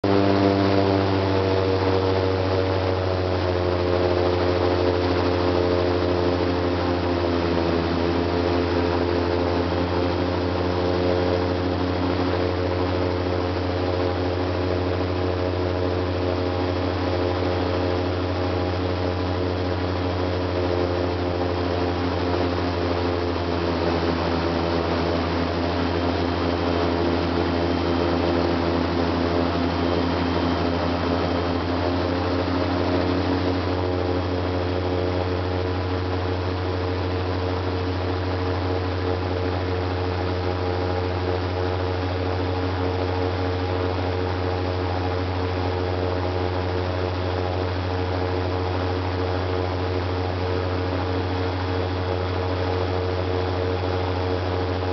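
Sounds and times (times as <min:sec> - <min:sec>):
airboat engine droning: 0:00.0 - 0:54.9.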